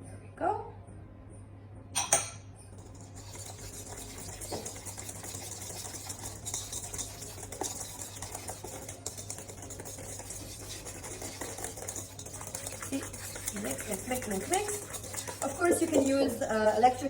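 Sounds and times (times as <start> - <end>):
hand whisk beating batter in bowl: 2.8 - 17.0.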